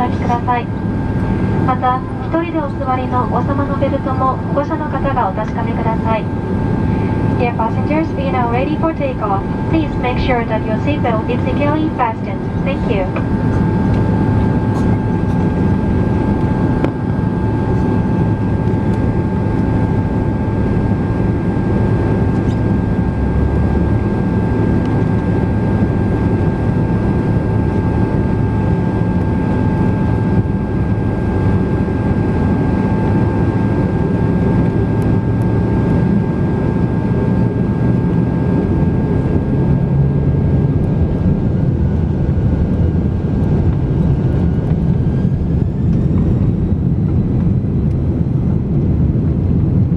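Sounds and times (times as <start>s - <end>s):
faint rising engine whine: 0.0s - 49.9s
jet engine whining: 0.0s - 49.9s
jet engines rumbling: 0.0s - 49.9s.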